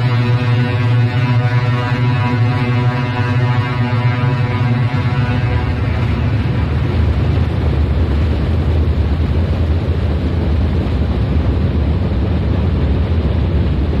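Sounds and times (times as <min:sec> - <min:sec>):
low rumbling drone: 0:00.0 - 0:14.0.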